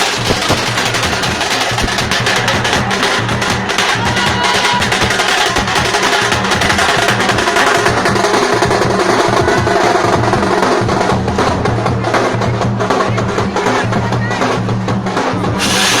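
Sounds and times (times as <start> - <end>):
fast dense drumming music: 0.0 - 16.0.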